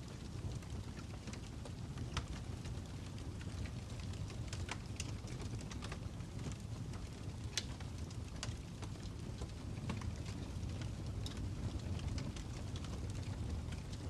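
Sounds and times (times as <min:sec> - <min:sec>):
fire crackling: 0:00.0 - 0:14.0.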